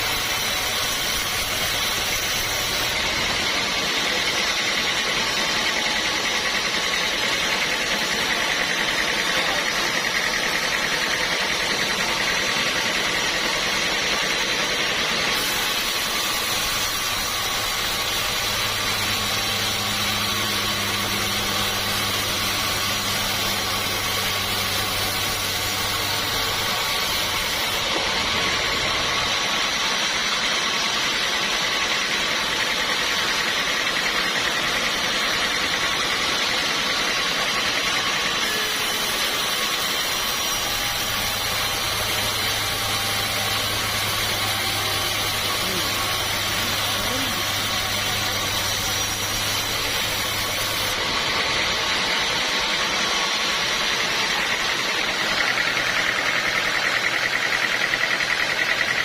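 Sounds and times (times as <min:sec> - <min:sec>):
sawmill saw cutting wood: 0:00.0 - 0:59.0.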